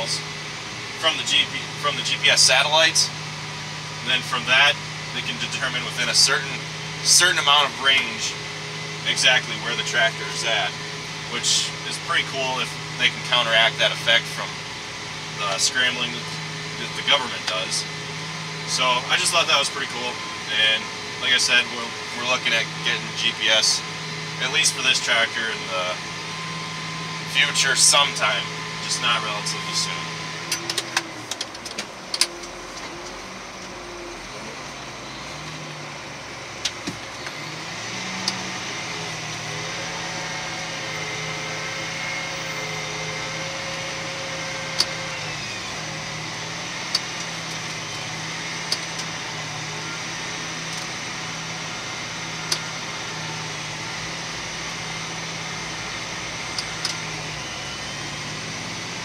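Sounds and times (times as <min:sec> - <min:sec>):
tractor engine drone: 0:00.0 - 0:59.0.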